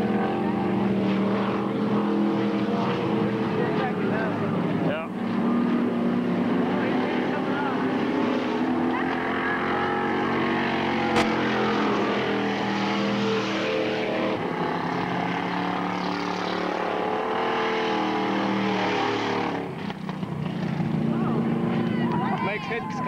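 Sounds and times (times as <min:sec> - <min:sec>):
stock car engines racing: 0:00.0 - 0:23.0.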